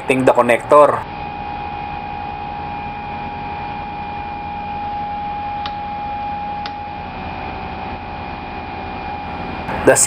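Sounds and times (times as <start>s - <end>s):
engine room machinery whine: 0.0s - 10.0s.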